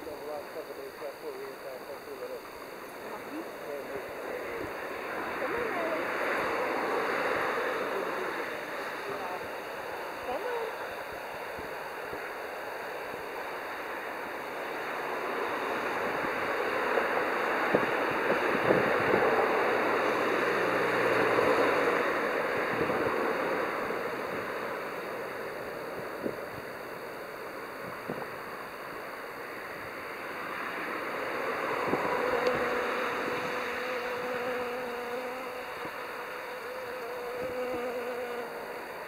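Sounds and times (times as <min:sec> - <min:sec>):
bee wings buzzing: 0:00.0 - 0:39.0.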